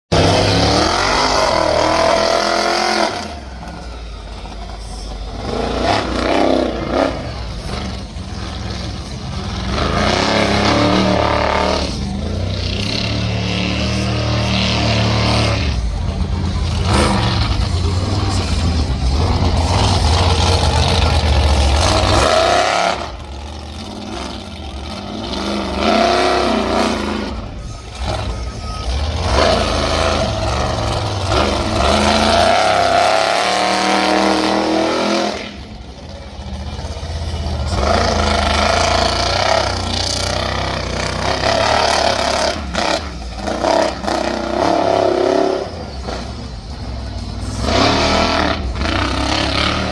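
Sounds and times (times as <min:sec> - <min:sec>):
truck engine revving loudly: 0:00.0 - 0:49.9.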